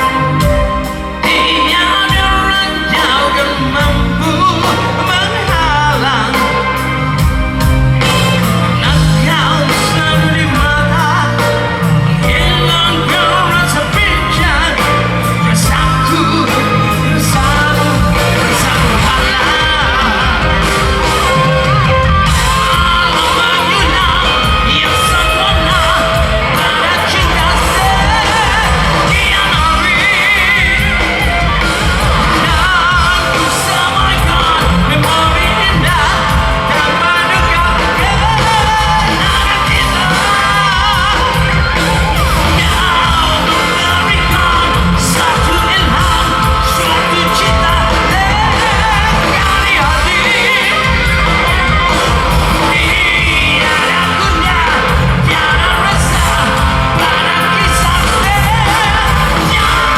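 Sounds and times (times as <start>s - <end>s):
audience yelling: 0.0s - 59.9s
person singing: 0.0s - 59.9s
rock band playing live: 0.0s - 59.9s.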